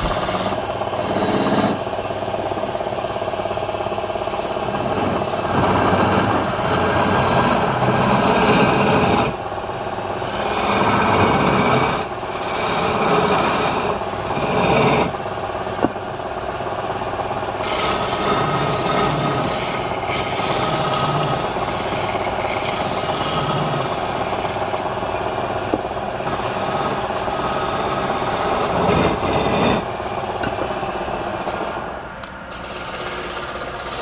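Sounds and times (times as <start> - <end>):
chisel scraping spinning wood: 0.0 - 1.9, 4.2 - 16.0, 17.5 - 25.0, 25.7 - 30.6, 31.4 - 31.9, 32.5 - 34.0
wood lathe running: 0.0 - 3.0, 4.1 - 15.9, 17.4 - 30.6, 32.5 - 34.0.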